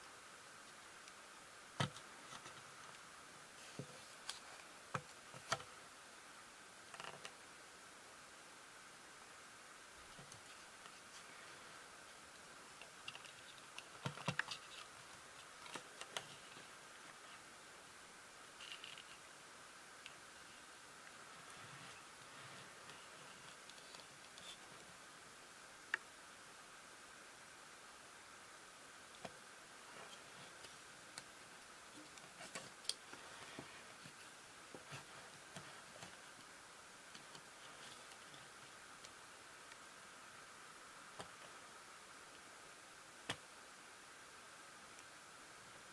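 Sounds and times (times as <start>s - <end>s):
faint steady hiss: 0.0s - 45.9s.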